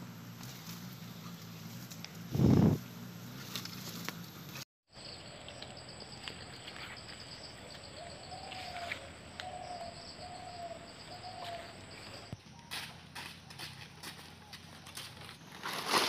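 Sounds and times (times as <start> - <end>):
insects trilling: 0.0 - 13.1.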